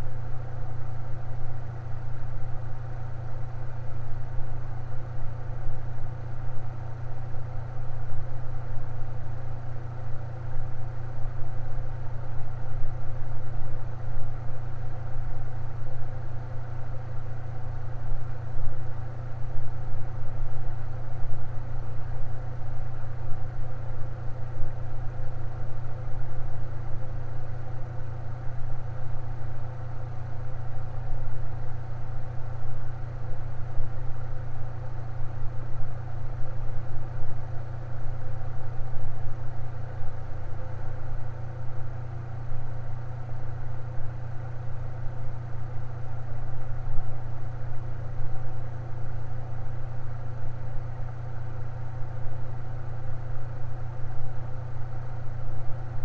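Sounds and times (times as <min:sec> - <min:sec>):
electric fan humming: 0:00.0 - 0:56.0.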